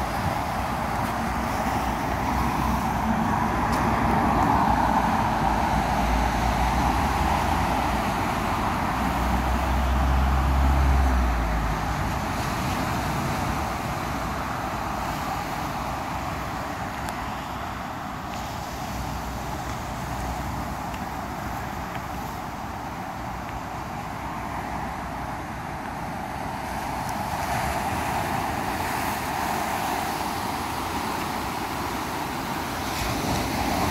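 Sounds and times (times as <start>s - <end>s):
road traffic passing: 0.0s - 33.9s.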